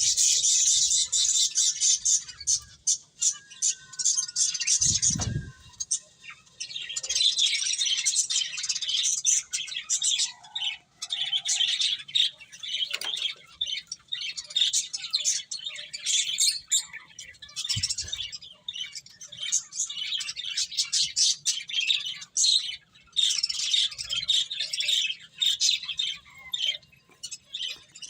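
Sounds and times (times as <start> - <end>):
finches chirping: 0.0 - 28.0.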